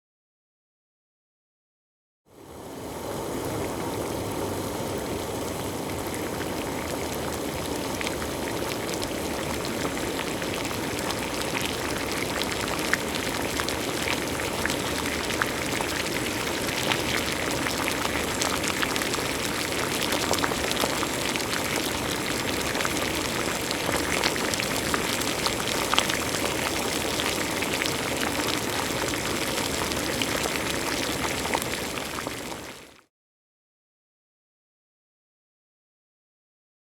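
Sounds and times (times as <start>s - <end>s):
water boiling and bubbling: 2.3s - 33.1s.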